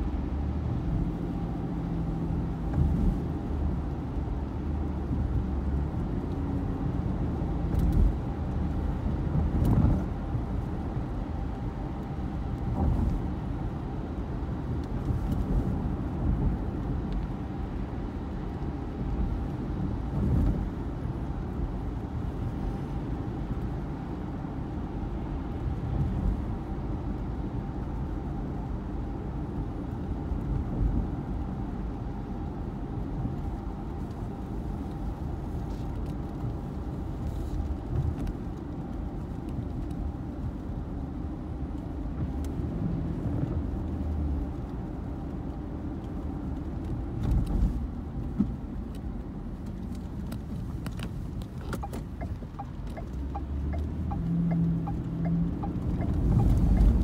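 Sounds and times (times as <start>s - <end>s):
car driving on wet road: 0.0s - 57.0s.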